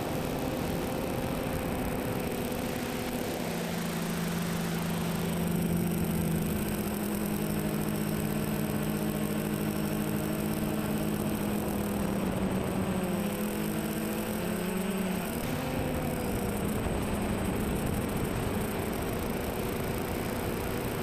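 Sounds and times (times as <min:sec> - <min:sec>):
drone propellers humming: 0:00.0 - 0:21.0.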